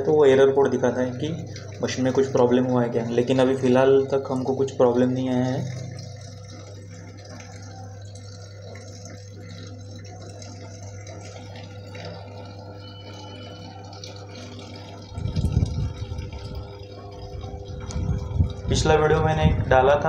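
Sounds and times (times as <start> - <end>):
steady hum: 0.0 - 20.0
water pouring into drum: 0.0 - 20.0.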